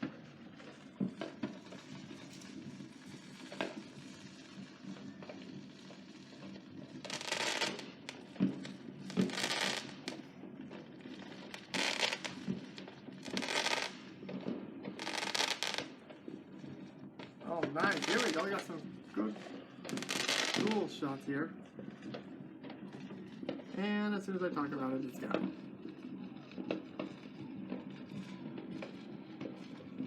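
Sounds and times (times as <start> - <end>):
faint firework pops: 0.0 - 30.0
fireworks crackling: 0.0 - 30.0.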